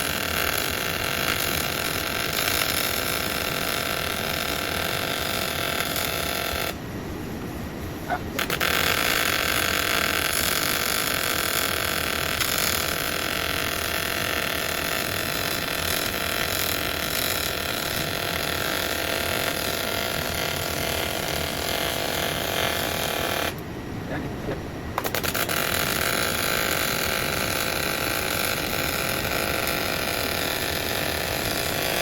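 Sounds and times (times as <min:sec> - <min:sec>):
welding arc hissing and buzzing: 0:00.0 - 0:06.8, 0:08.3 - 0:23.6, 0:25.0 - 0:32.0.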